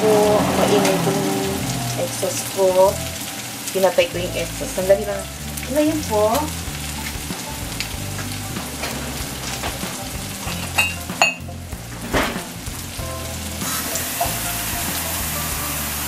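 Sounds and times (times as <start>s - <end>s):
beef and onions sizzling in a wok: 0.0s - 16.0s.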